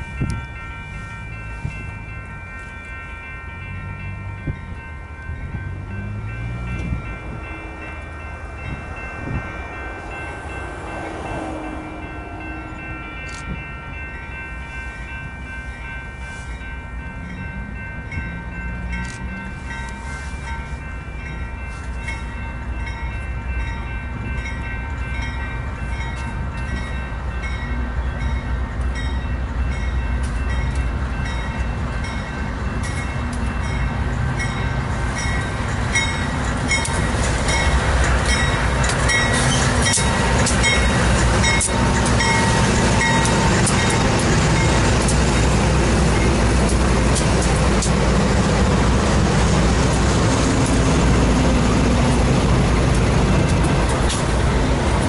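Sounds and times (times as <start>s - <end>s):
diesel locomotive engines: 0.0s - 55.0s
train rail noise: 0.0s - 55.0s.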